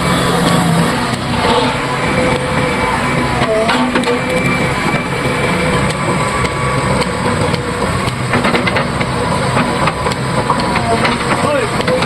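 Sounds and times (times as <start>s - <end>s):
heavy machinery diesel engine: 0.0s - 12.0s.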